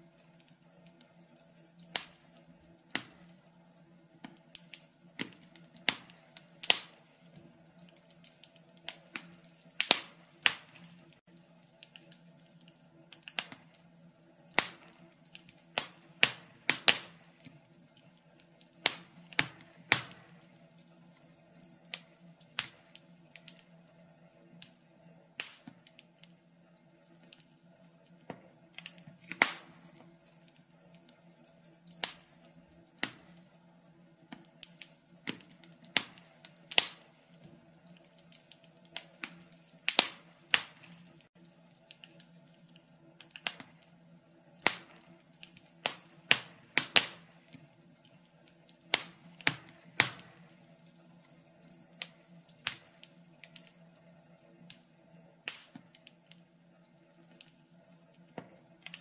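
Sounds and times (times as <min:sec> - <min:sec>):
faint steady hum: 0:00.0 - 0:59.0
fire crackling and popping: 0:00.0 - 0:59.0.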